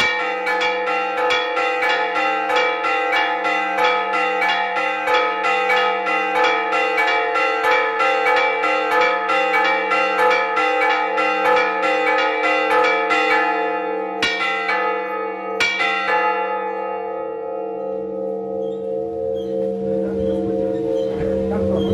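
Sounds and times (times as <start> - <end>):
church bell pealing: 0.0 - 21.9.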